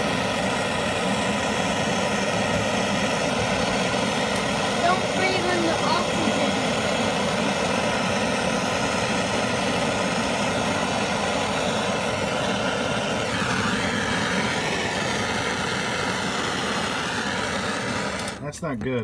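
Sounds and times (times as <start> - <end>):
torch flame hissing: 0.0 - 18.5.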